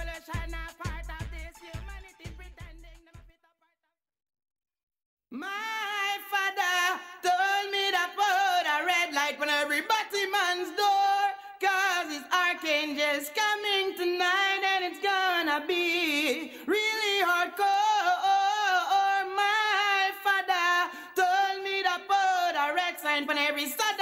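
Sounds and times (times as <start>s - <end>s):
person singing dancehall vocal: 0.0s - 3.8s, 5.3s - 24.0s.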